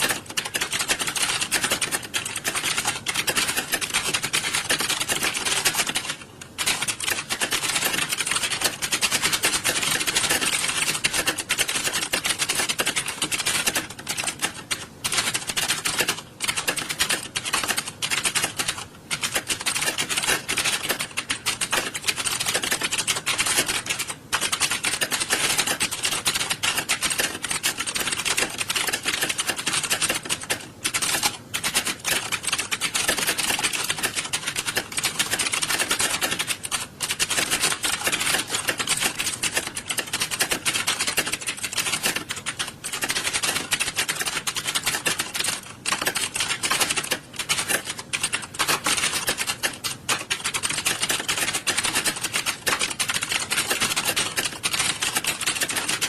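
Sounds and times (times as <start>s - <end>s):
many keyboards typing: 0.0s - 56.0s.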